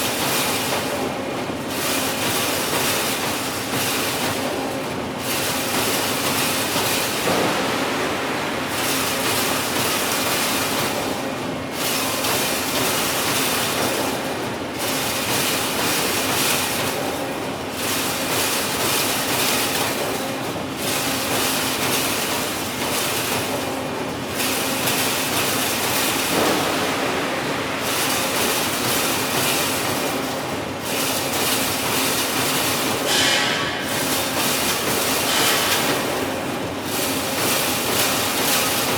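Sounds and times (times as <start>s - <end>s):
machine metallic clatter: 1.7s - 17.1s, 17.8s - 38.9s.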